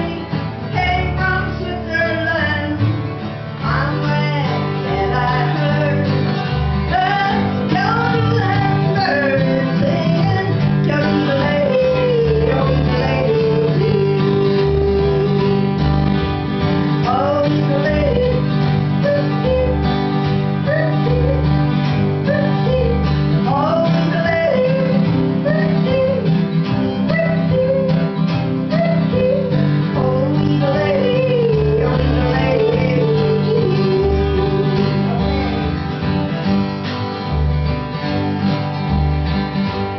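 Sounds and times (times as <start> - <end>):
woman singing: 0.0 - 15.9, 17.0 - 35.2
acoustic guitar: 0.0 - 39.9
plucked strings: 0.0 - 39.9.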